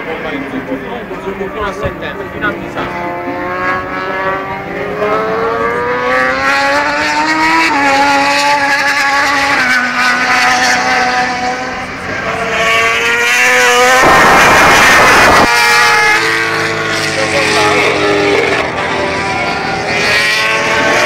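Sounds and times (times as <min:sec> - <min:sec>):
racing motorcycle engines revving: 0:00.0 - 0:21.0
motorcycle passing close: 0:02.3 - 0:21.0.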